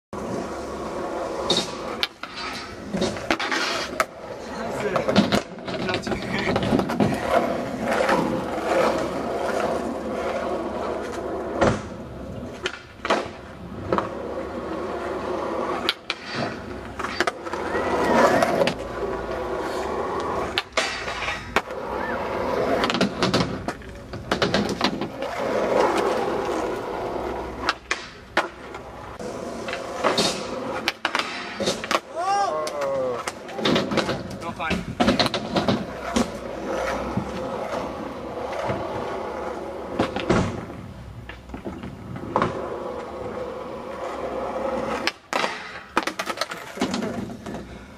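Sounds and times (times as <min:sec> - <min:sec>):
skateboard wheels rolling on asphalt: 0:00.1 - 0:47.9
skateboard clacks: 0:00.2 - 0:47.8.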